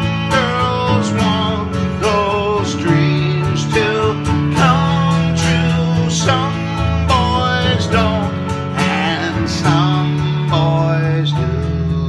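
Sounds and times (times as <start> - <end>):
acoustic guitar strumming: 0.0 - 12.0
person singing wavering notes: 0.0 - 12.0.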